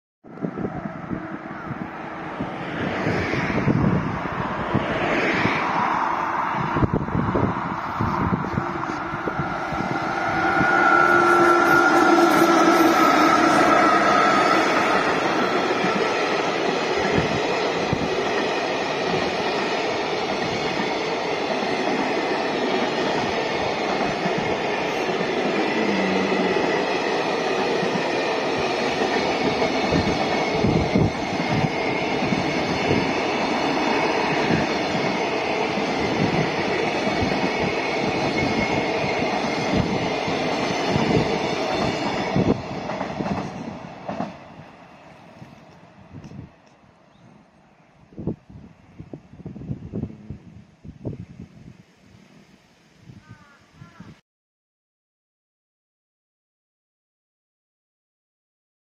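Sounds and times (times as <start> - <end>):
freight train rumbling past: 0.3 - 52.6.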